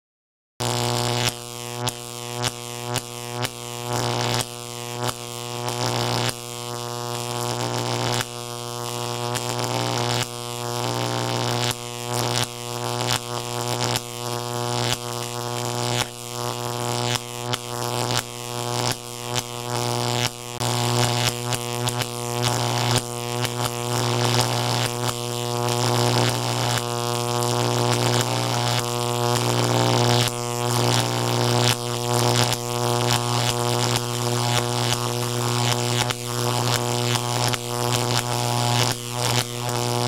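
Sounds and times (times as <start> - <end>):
crackling electric zaps: 0.6 - 40.0
electric buzzing hum: 0.6 - 40.0.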